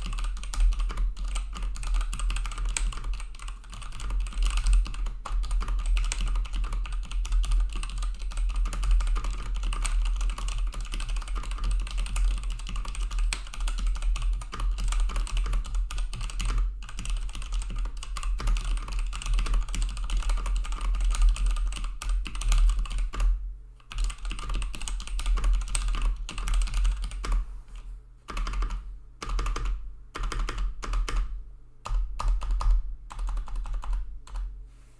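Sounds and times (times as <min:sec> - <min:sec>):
mechanical keyboard typing: 0:00.0 - 0:23.3, 0:23.9 - 0:27.4, 0:28.3 - 0:34.4.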